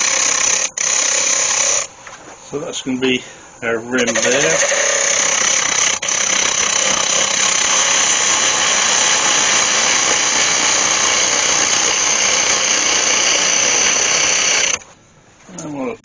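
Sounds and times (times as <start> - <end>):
gouge cutting wood on lathe: 0.0 - 1.9, 4.0 - 14.9.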